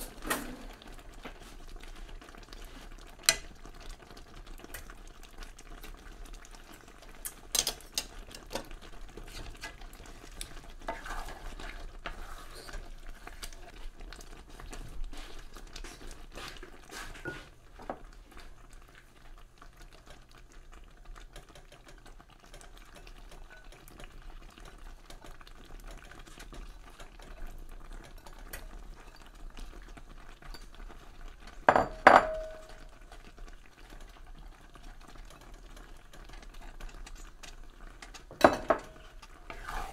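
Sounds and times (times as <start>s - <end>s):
utensil stirring in a pan: 0.0s - 39.9s.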